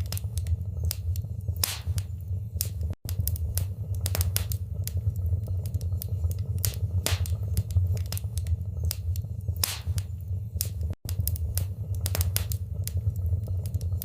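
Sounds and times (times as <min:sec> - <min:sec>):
louder fire pops: 0:00.0 - 0:14.0
low rumble of flames: 0:00.0 - 0:14.0
wood fire crackling: 0:00.0 - 0:14.0.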